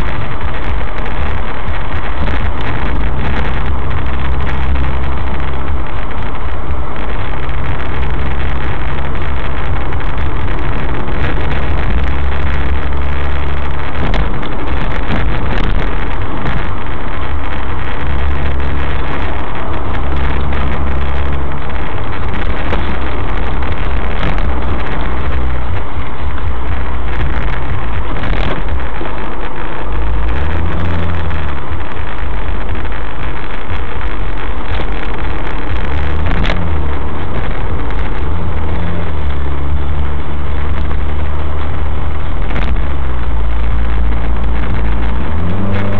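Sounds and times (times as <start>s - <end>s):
car engine cruising: 0.0s - 45.9s
tyre and road noise: 0.0s - 45.9s.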